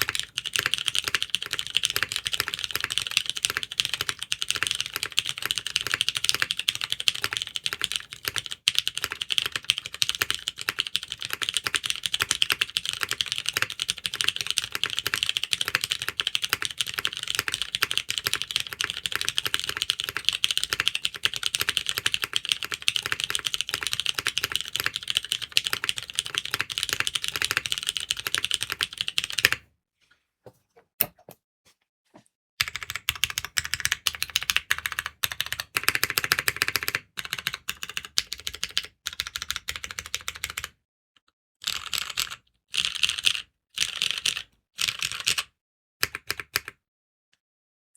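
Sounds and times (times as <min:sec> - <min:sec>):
mechanical keyboard typing: 0:00.0 - 0:29.6, 0:32.6 - 0:40.8, 0:41.6 - 0:45.4.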